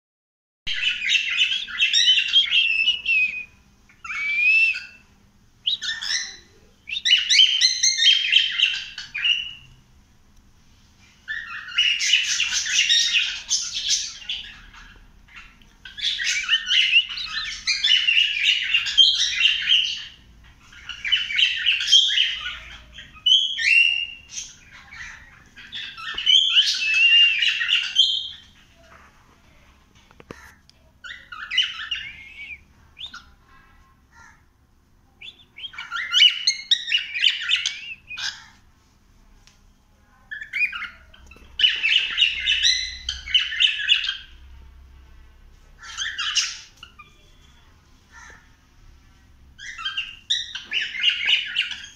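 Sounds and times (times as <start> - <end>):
cockatiel chirping: 0.7 - 9.7, 11.3 - 28.6, 30.3 - 33.4, 35.2 - 38.6, 40.3 - 44.3, 45.8 - 48.4, 49.6 - 51.9.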